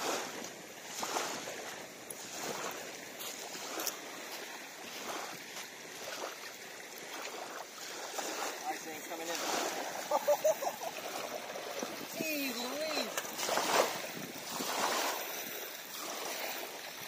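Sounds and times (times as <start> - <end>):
small waves lapping at shoreline: 0.0 - 17.0.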